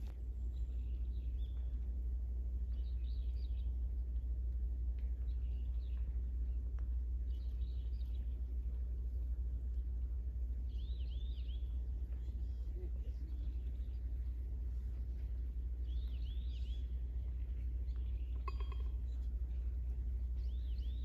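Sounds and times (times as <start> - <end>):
birds chirping: 0.0 - 2.0, 2.6 - 4.0, 5.0 - 21.0
steady low rumble: 0.0 - 21.0.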